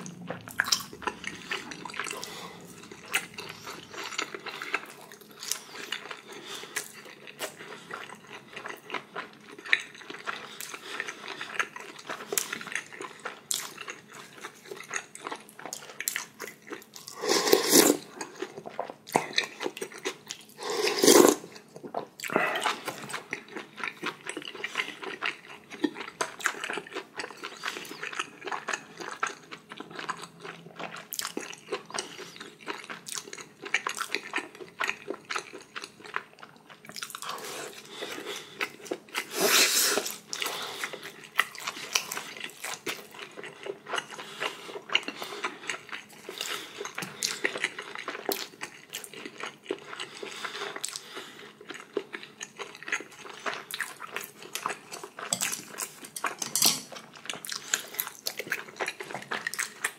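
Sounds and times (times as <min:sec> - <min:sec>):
person chewing: 0:00.0 - 0:59.9.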